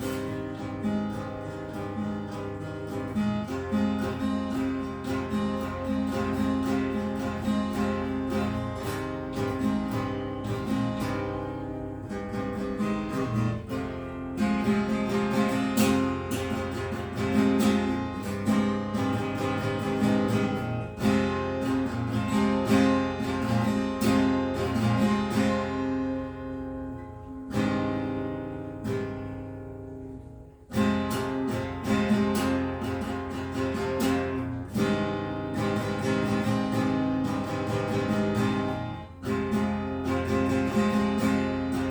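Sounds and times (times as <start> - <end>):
acoustic guitar strumming chords: 0.0 - 41.9.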